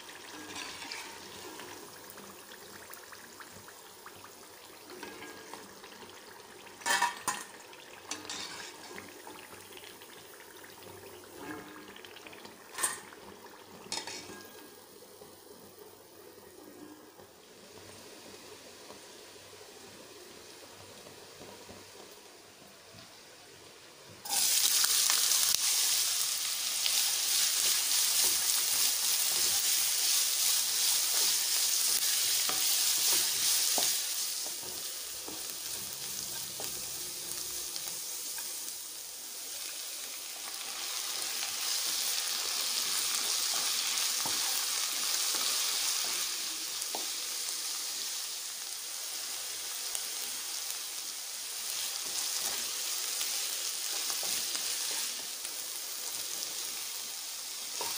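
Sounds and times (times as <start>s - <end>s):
onions sizzling in hot oil: 0.0s - 57.9s.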